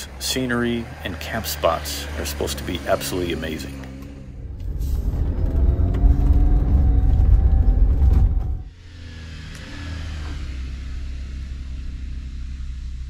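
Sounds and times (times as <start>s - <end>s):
vehicle driving on dirt road: 0.0s - 13.0s.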